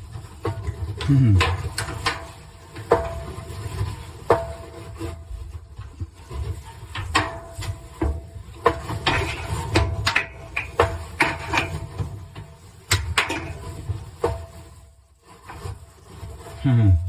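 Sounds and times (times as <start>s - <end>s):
brush scraping in vent: 0.0s - 17.0s.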